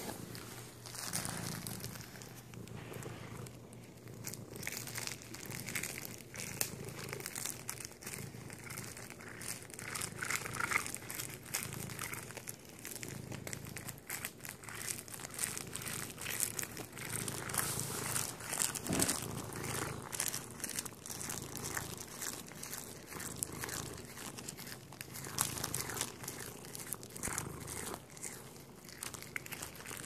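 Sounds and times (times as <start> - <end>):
cellophane crinkling: 0.0 - 30.0
cat licking and chewing: 0.7 - 30.0.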